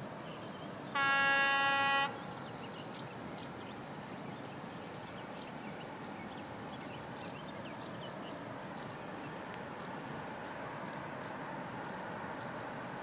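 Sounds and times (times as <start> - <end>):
birds chirping: 0.2 - 12.7.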